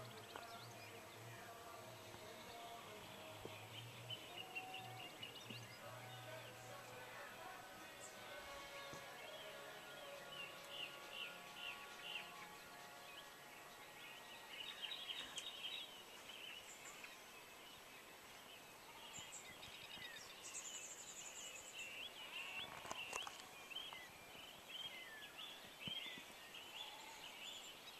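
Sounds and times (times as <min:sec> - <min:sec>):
small birds chirping and twittering: 0:00.0 - 0:27.9.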